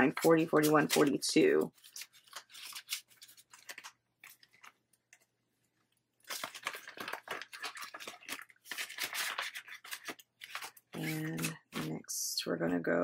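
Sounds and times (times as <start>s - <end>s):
banknotes and plastic pouch rustling: 0.0s - 5.4s, 6.2s - 12.0s.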